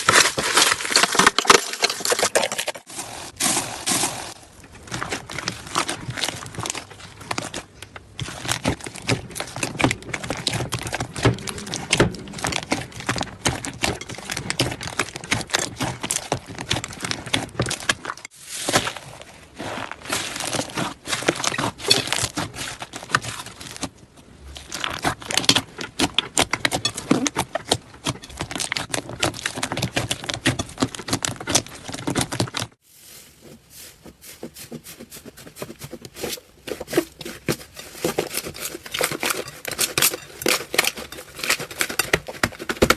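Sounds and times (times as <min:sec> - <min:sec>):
slime squishing with sticky crackles: 0:00.0 - 0:42.9.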